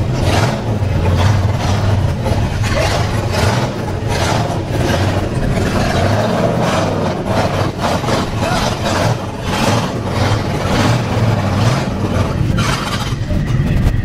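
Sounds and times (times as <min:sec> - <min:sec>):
truck engine running at low revs: 0:00.0 - 0:14.0.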